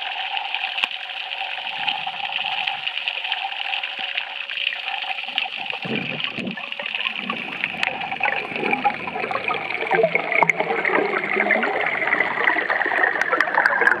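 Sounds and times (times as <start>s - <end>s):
underwater bubbling hiss: 0.0s - 14.0s.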